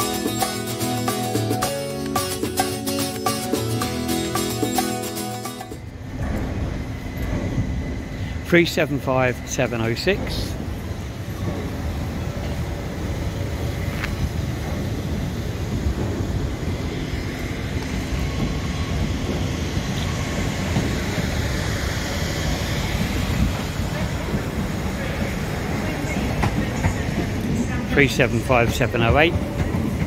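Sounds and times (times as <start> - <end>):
electric train pulling out: 0.0 - 30.0.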